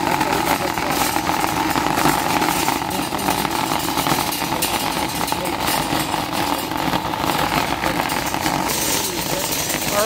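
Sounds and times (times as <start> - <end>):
shopping cart rattling on asphalt: 0.0 - 10.0.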